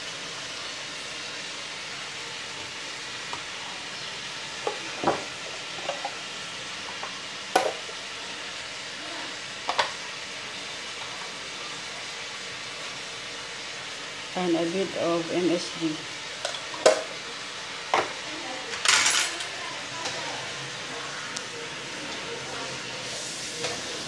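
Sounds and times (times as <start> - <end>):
chicken sizzling in a wok: 0.0 - 24.0.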